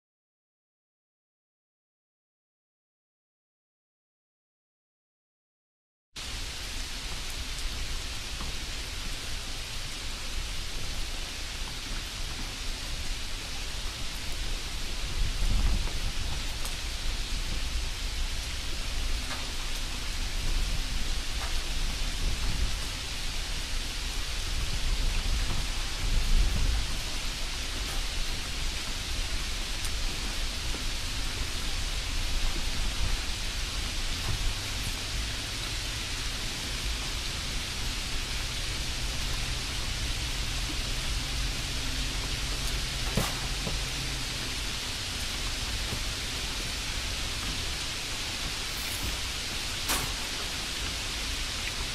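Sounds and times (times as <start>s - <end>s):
steady hissing noise: 6.2s - 51.9s.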